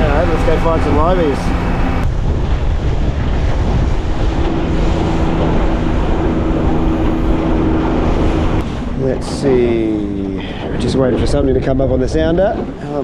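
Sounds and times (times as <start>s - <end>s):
outboard motor running: 0.0s - 10.7s
water slapping hull: 0.0s - 13.0s
wind buffeting microphone: 0.0s - 13.0s.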